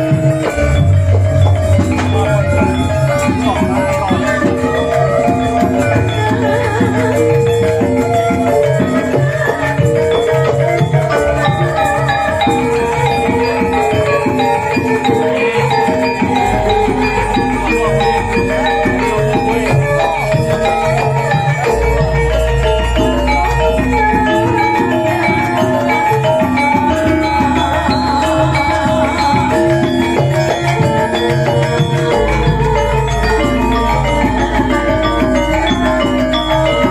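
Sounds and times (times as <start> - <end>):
drumming: 0.0 - 36.9
gamelan music over loudspeakers: 0.0 - 36.9
struck metallophone notes: 0.0 - 36.9.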